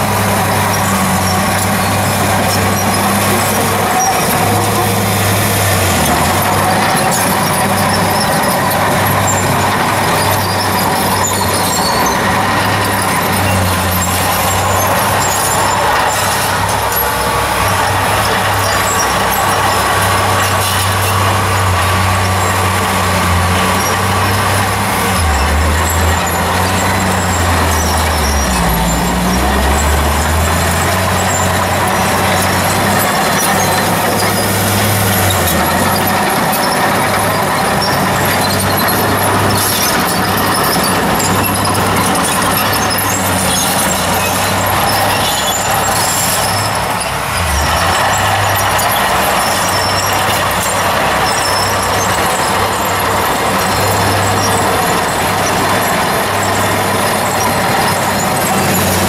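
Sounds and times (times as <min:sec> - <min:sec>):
dozer diesel engine running: 0:00.0 - 0:59.0
steel tracks clattering: 0:00.0 - 0:59.0.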